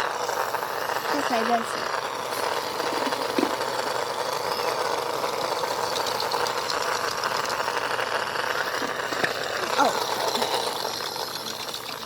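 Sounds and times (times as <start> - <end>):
toy motor rattling whirr: 0.0 - 12.0.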